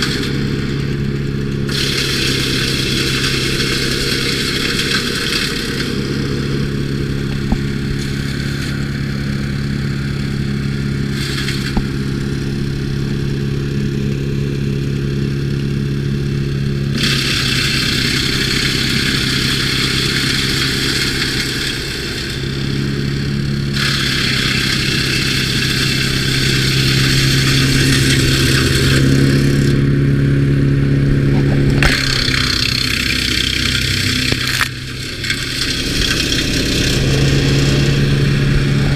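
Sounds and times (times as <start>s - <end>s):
wood being chipped: 0.0s - 13.9s, 16.9s - 29.8s, 31.3s - 38.9s
wood chipper engine running: 0.0s - 38.9s.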